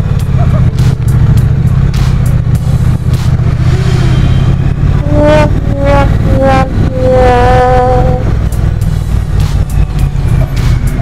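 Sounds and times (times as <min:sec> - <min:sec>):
motorcycle engine running: 0:00.0 - 0:11.0
descending pitched notes: 0:01.8 - 0:11.0.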